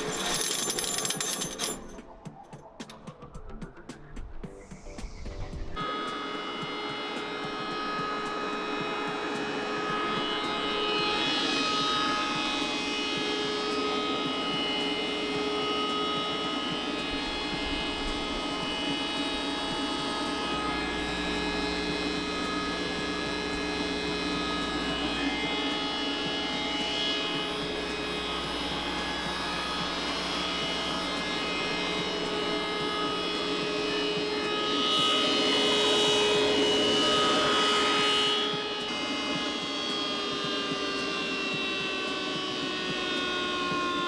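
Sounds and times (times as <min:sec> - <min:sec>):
hammer mill motor hum and whine: 0:00.0 - 0:44.0.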